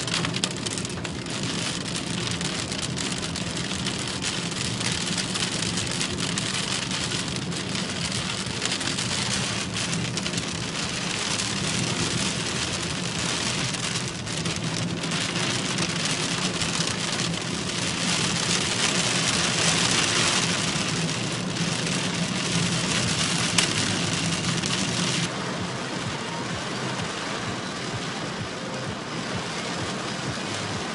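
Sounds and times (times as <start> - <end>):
heavy rain on car roof: 0.0 - 30.9
low engine hum: 0.0 - 30.9.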